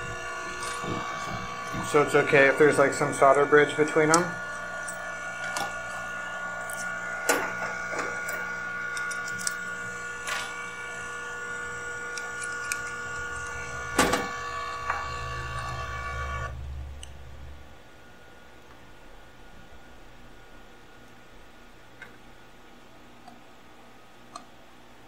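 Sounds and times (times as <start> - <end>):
electric fan whir: 0.0 - 25.0.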